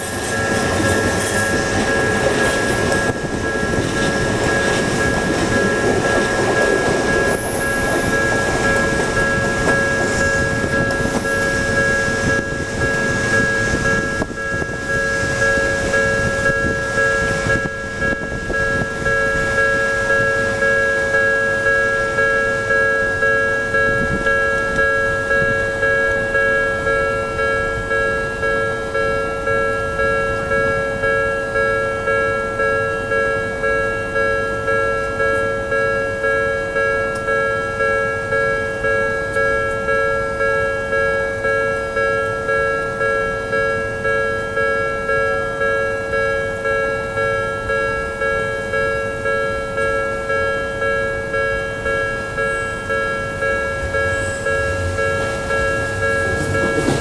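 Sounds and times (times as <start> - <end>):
level crossing warning bell ringing: 0.0 - 57.0.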